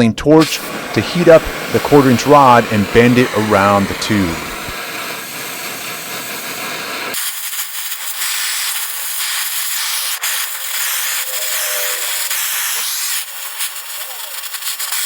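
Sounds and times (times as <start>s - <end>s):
torch flame hissing: 0.4s - 15.0s.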